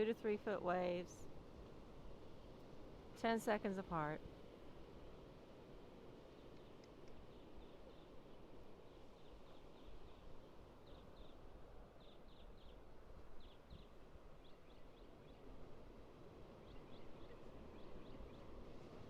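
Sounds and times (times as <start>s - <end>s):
faint surf on beach: 0.0s - 19.0s.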